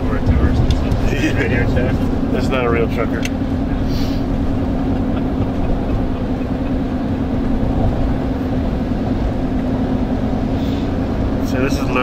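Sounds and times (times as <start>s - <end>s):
low hum: 0.0s - 11.4s
vehicle engine and road drone: 0.0s - 12.0s.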